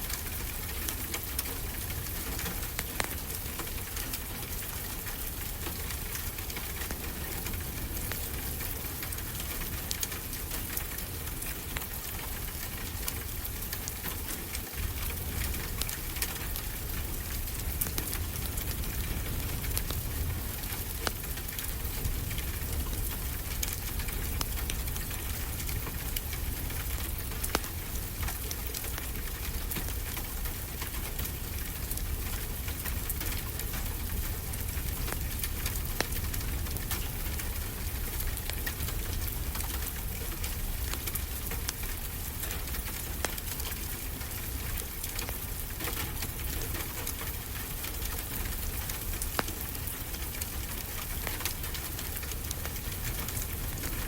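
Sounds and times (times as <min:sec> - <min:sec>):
steady rain hissing: 0:00.0 - 0:54.0
wood fire crackling: 0:00.0 - 0:54.0.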